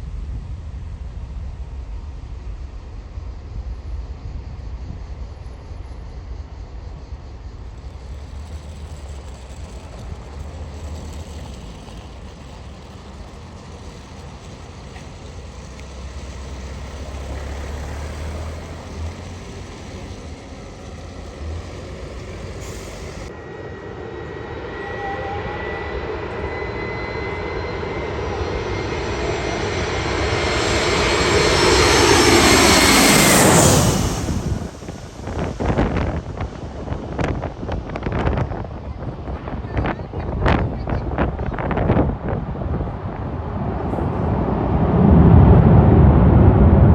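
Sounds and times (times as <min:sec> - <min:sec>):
airliner engines whining: 0:00.0 - 0:46.9.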